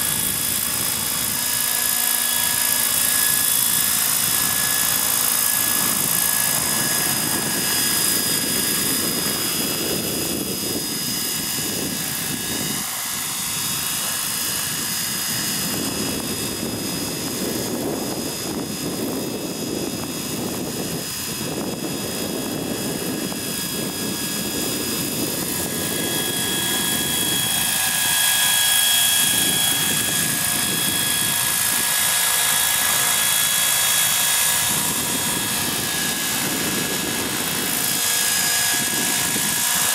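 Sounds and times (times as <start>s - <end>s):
high-pitched drive whine: 0.0s - 39.9s
model helicopter rotor rush: 0.0s - 39.9s.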